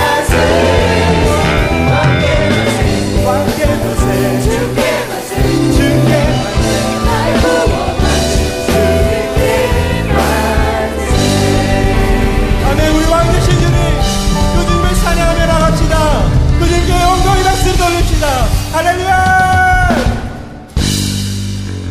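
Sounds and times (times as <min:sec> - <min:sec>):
voices singing: 0:00.0 - 0:17.6
band playing a praise song: 0:00.0 - 0:21.7.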